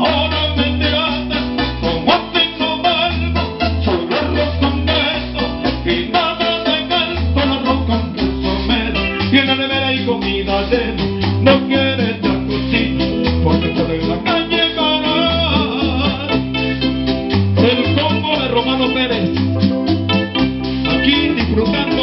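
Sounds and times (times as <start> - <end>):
bass line: 0.0 - 22.0
electronic keyboard melody: 0.0 - 22.0
shaken metal percussion: 0.0 - 22.0.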